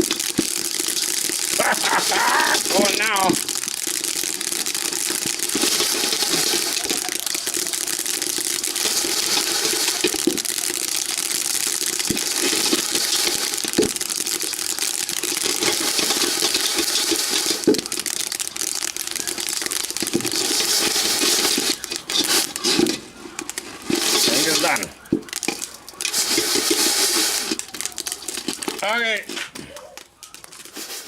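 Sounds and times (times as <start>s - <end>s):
rice popping in a hot pan: 0.0s - 31.0s.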